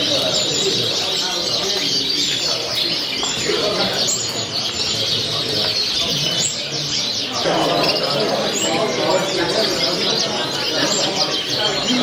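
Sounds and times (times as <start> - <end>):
caged birds chirping: 0.0 - 12.0
murmur of voices: 0.0 - 12.0.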